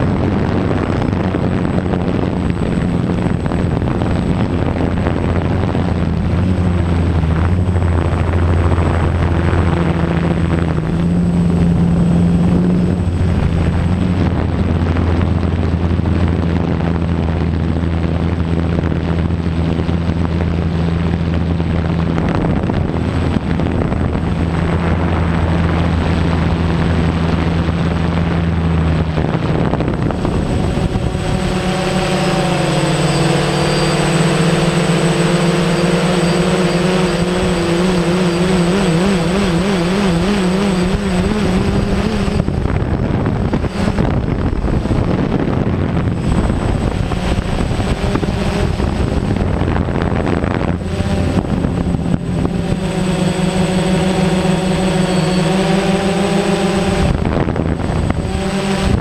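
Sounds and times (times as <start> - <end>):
drone propellers whining: 0.0 - 59.0.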